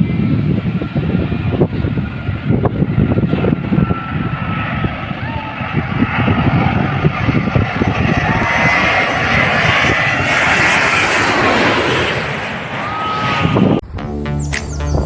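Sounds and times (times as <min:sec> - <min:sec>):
jet airliner landing overhead: 0:00.0 - 0:13.8.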